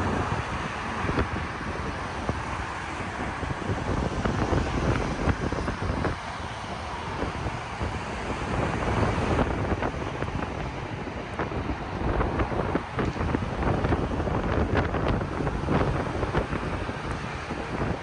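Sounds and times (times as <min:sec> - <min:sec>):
road traffic noise: 0:00.0 - 0:18.0
wind buffeting microphone: 0:00.0 - 0:18.0.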